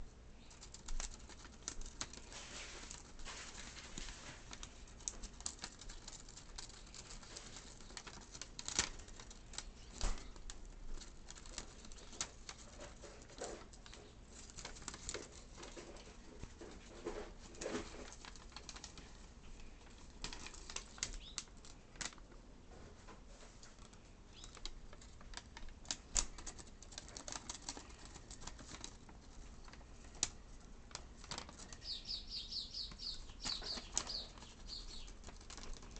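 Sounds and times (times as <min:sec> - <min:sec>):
bird tearing paper: 0:00.5 - 0:22.2, 0:23.4 - 0:32.0, 0:33.4 - 0:35.9.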